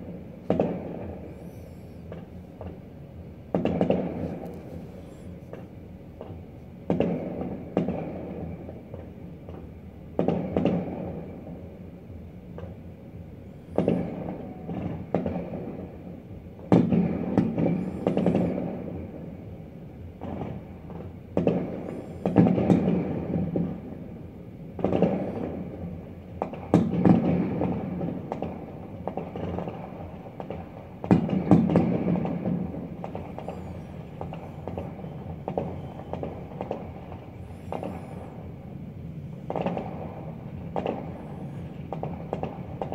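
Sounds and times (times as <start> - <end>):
distant fireworks booms: 0.0 - 42.9
faint fireworks crackling: 0.0 - 42.9.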